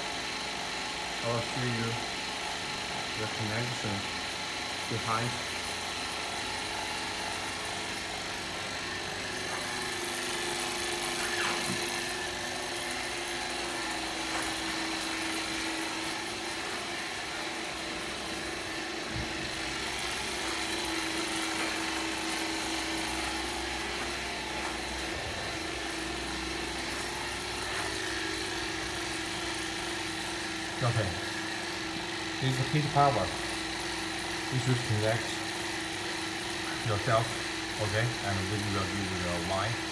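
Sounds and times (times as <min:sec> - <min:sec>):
vacuum pump humming: 0:00.0 - 0:39.9.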